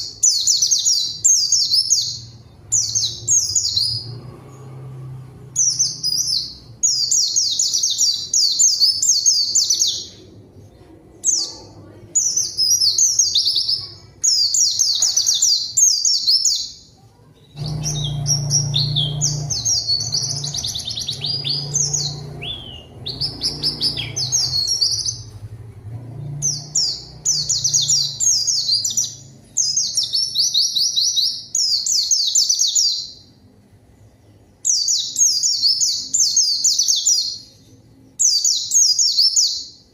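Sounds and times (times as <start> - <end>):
birds chattering song: 0.0 - 39.9.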